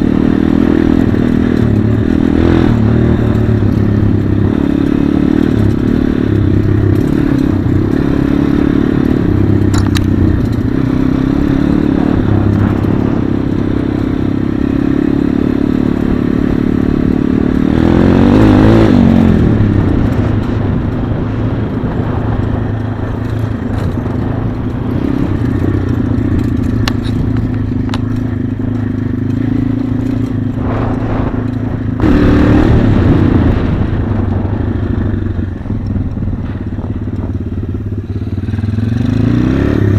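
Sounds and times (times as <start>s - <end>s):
pit bike engine revving: 0.0s - 39.9s
rattling and scraping: 0.9s - 18.1s, 18.8s - 39.0s.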